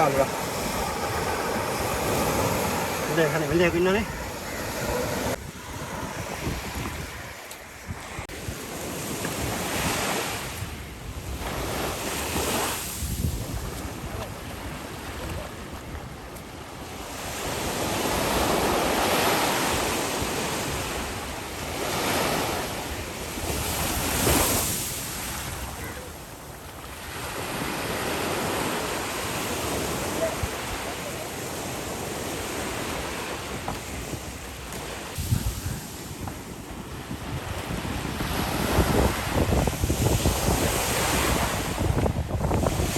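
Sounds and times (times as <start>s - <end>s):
wind buffeting microphone: 0.0s - 26.7s, 29.3s - 42.9s
surf washing onto shore: 0.0s - 42.9s.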